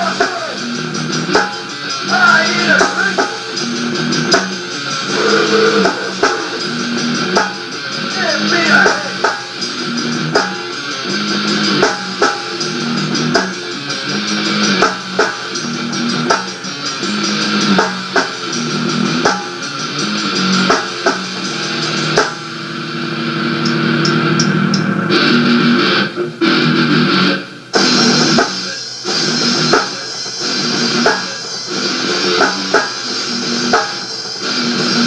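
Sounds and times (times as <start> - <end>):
rock band music: 0.0 - 35.0.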